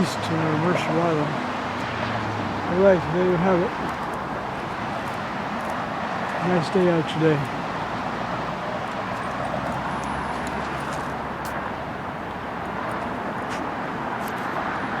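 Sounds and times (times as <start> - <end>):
heavy freeway traffic: 0.0 - 15.0.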